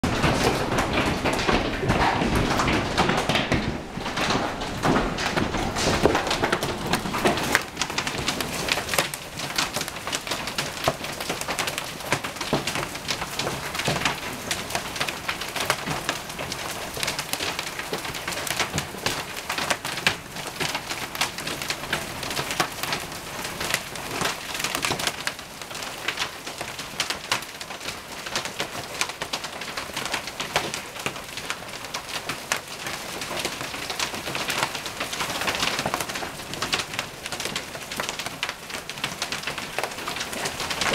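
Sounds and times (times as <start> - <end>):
hailstones clattering: 0.0 - 40.9.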